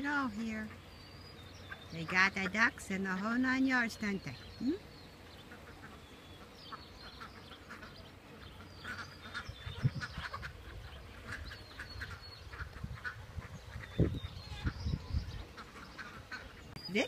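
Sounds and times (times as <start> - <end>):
ducks quacking: 0.0 - 1.0, 1.6 - 4.6, 5.2 - 17.0
young birds peeping: 0.0 - 17.0.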